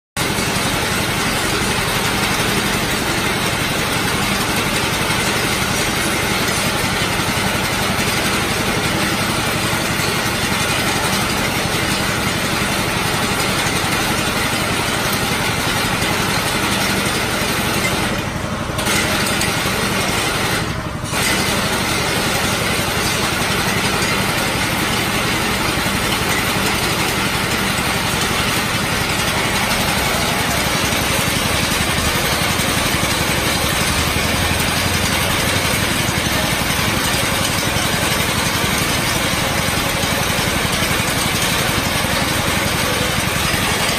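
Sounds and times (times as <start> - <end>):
petrol engine running: 0.2 - 43.9.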